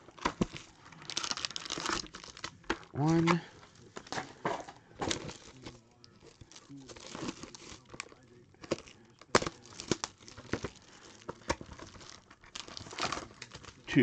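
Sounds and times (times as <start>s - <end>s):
cellophane crinkling and tearing: 0.0s - 14.0s
sharp crack of cellophane: 0.2s - 3.4s, 5.0s - 13.9s.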